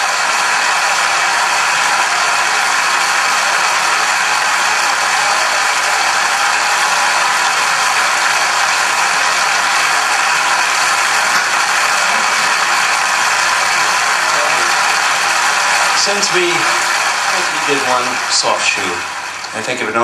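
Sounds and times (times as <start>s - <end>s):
loud steady hiss: 0.0s - 20.0s.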